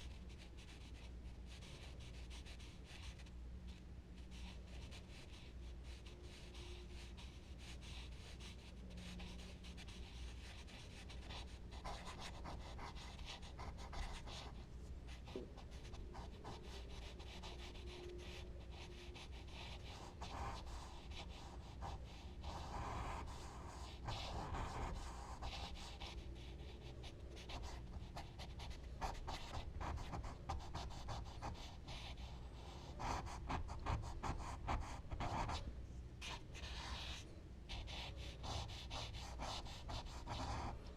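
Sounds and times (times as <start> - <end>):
charcoal scratching on paper: 0.1 - 3.3, 4.2 - 35.6, 36.2 - 40.8.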